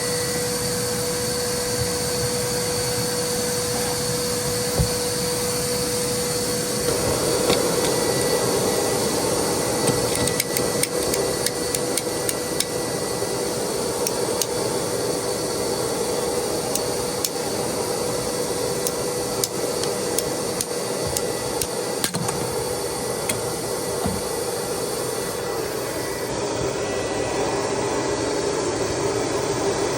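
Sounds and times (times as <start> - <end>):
wet dry vac motor running: 0.0 - 29.9.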